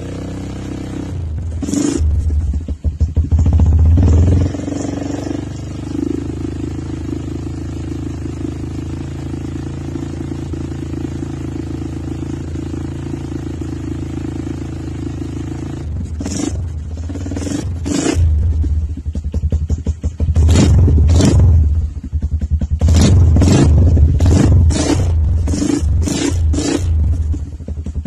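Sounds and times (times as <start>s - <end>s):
motorcycle idling with deep exhaust: 0.0s - 28.0s
motorcycle throttle blips: 0.0s - 28.0s.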